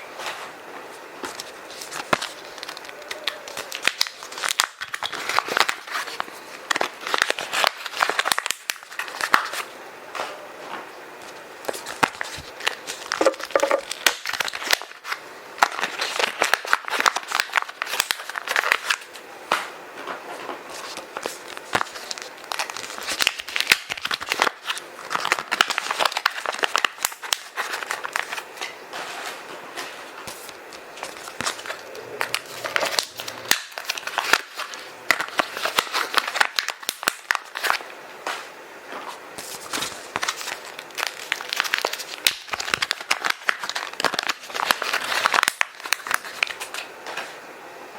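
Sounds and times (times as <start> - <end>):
paper and plastic bags crinkling: 0.9 - 10.4, 11.2 - 47.4.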